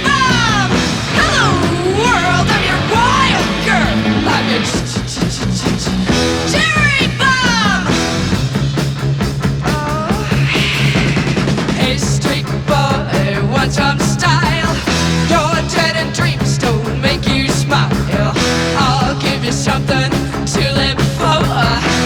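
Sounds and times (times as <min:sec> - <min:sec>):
rock music from vinyl record: 0:00.0 - 0:22.0.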